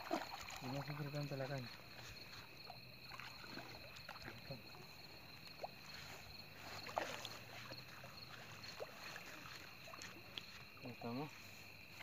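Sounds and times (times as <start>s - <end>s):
faint water splashing: 0.0s - 12.0s.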